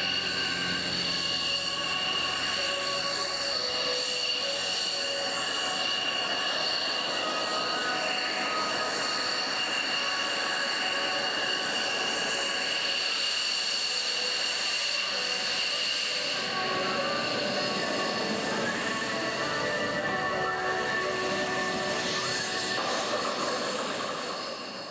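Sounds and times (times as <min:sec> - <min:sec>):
jet engine turbine whine: 0:00.0 - 0:24.9.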